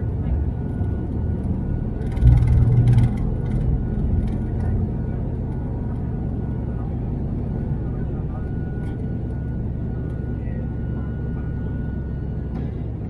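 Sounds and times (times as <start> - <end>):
cabin rattle and rumble: 0.0 - 13.0
engine and propeller drone: 0.0 - 13.0.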